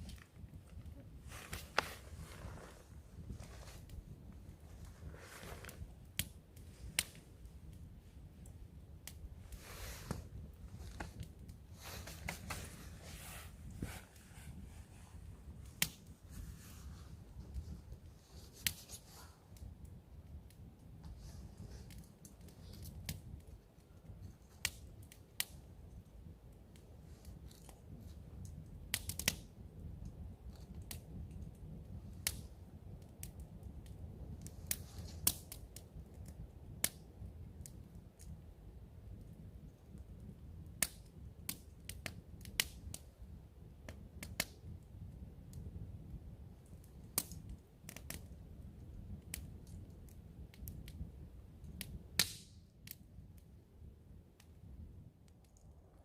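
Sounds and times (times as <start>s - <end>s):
campfire crackling and popping: 0.0s - 56.0s
low steady rush of fire: 0.0s - 56.0s.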